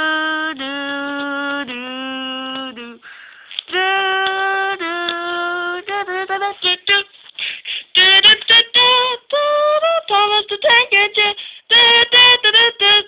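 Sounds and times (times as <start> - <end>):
person singing wordless tune: 0.0 - 13.0.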